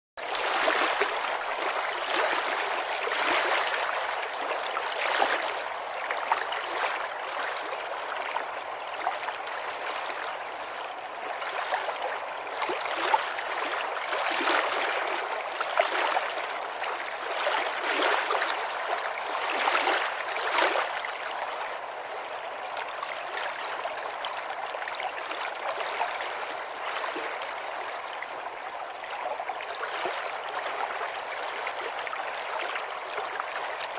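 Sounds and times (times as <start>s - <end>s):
stream gurgling over stones: 0.2s - 33.9s.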